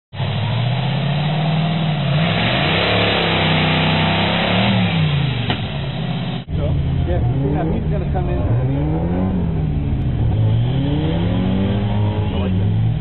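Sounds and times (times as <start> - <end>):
vehicle engine revving: 0.2 - 13.0.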